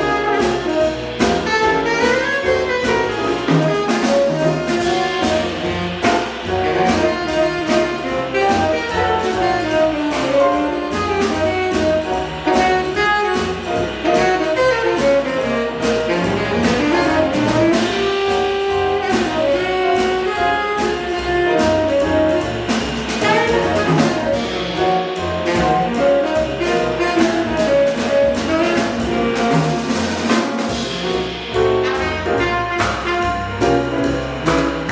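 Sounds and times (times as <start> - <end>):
horn line: 0.0 - 34.9
jazz quintet playing: 0.0 - 34.9.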